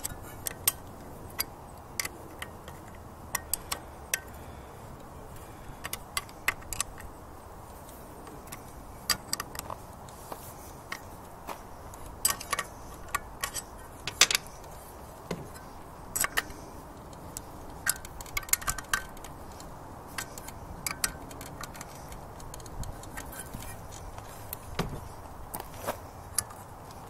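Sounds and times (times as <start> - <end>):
wrench and bolts clicking: 0.0 - 7.2, 7.8 - 9.8, 12.0 - 25.0.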